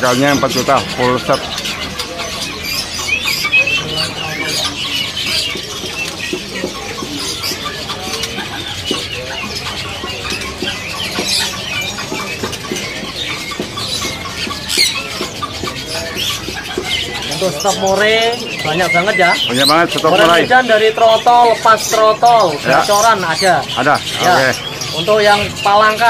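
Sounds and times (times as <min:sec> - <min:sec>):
songbirds chirping and calling: 0:00.0 - 0:26.0.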